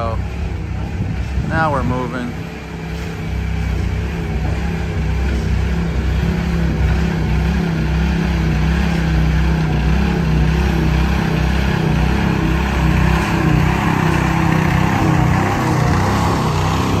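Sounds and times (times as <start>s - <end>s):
low engine drone: 0.0s - 17.0s
tyres rumbling: 0.0s - 17.0s.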